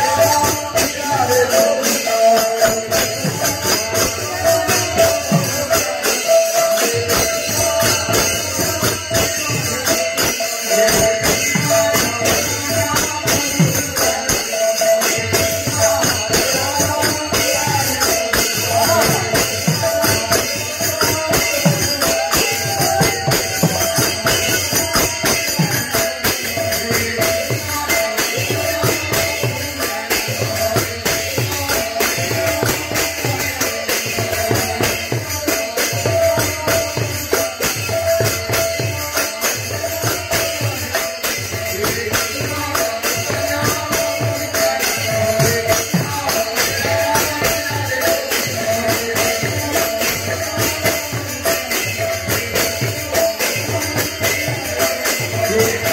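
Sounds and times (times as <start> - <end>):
hand cymbals clashing: 0.0 - 55.9.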